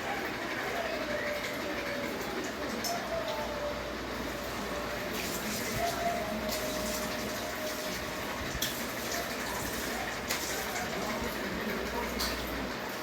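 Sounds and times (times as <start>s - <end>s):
ceiling fan whooshing: 0.0s - 13.0s.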